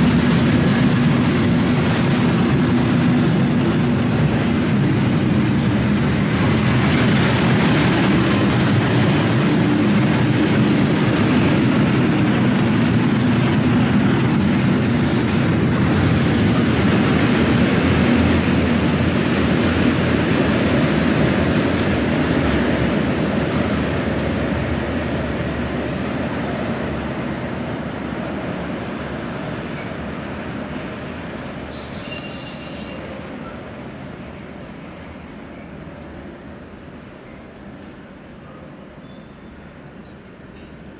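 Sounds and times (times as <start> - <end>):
freight train rolling on rails: 0.0 - 40.9.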